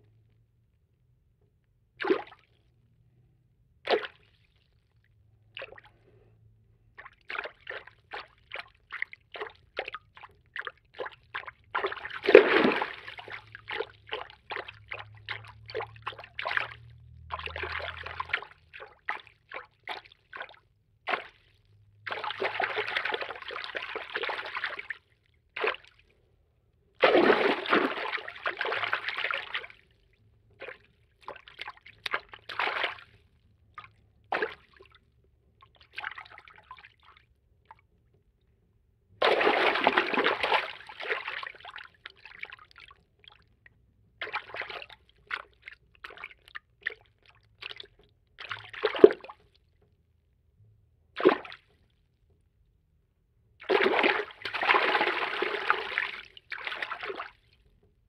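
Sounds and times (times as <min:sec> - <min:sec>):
continuous water movement: 0:01.9 - 0:58.0
water splashes and drips: 0:02.0 - 0:02.7, 0:03.8 - 0:26.3, 0:26.9 - 0:38.2, 0:39.2 - 0:50.0, 0:51.1 - 0:52.4, 0:53.6 - 0:58.0.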